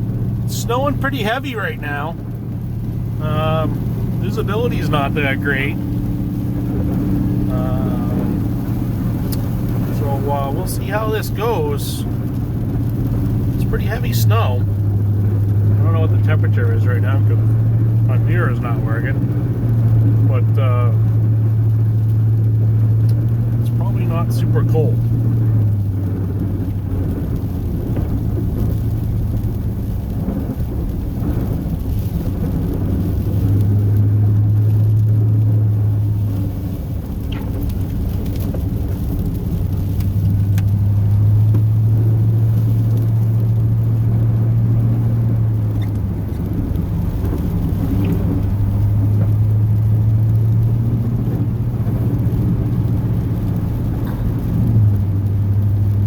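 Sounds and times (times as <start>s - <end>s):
road noise rumble: 0.0s - 56.0s
truck engine droning: 0.0s - 56.0s.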